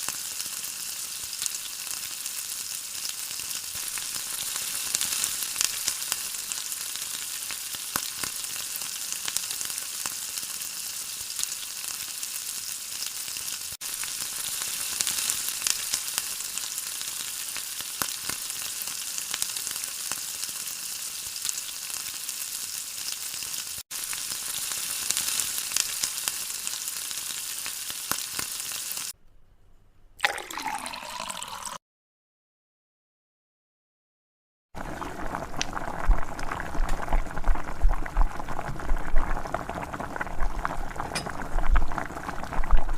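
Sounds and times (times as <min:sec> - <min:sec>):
food sizzling in hot oil: 0:00.0 - 0:29.2, 0:34.8 - 0:42.9.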